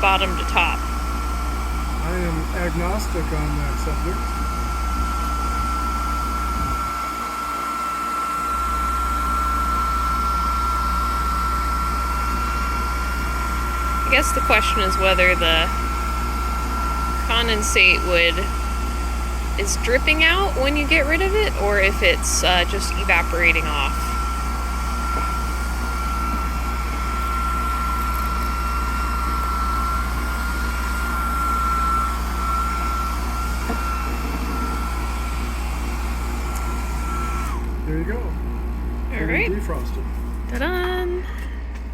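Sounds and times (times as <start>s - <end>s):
electric blower whirring: 0.0s - 41.9s.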